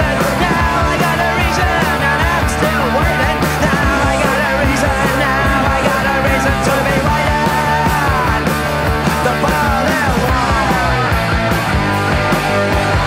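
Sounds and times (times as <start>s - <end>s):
rock music with drum beat: 0.0s - 13.0s.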